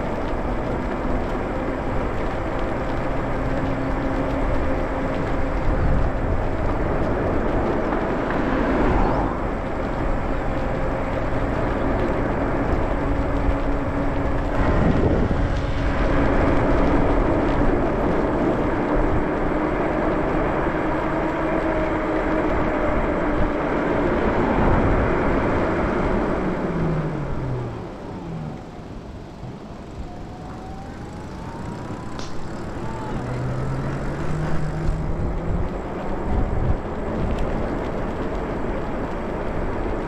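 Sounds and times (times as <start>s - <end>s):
road noise: 0.0s - 40.0s
wind rush: 0.0s - 40.0s.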